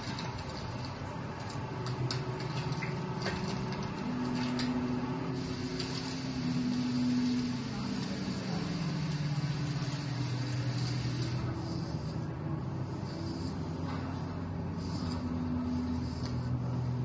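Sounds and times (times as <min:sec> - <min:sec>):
low droning tones: 0:00.0 - 0:17.0.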